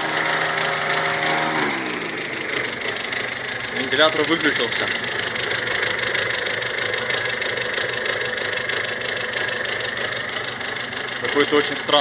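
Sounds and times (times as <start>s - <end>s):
car engine idling: 0.0s - 12.0s
fast ticking chatter: 2.2s - 12.0s.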